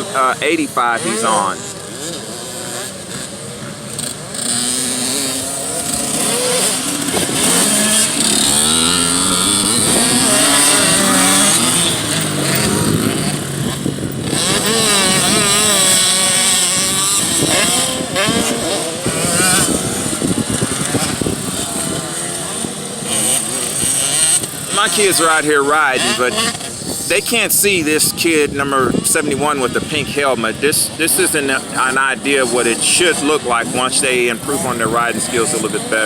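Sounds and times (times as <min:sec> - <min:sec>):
two-stroke motocross bikes revving: 0:00.0 - 0:36.0.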